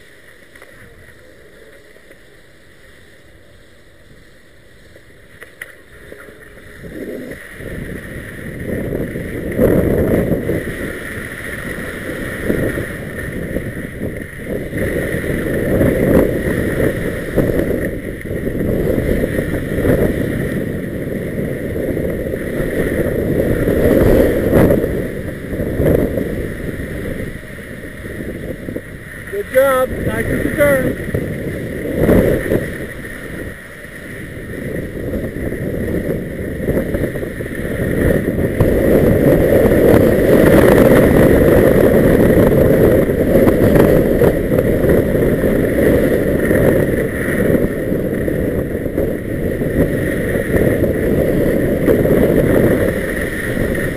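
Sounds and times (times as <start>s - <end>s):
skis scraping over snow: 0.0s - 53.9s
wind buffeting microphone: 3.6s - 53.9s.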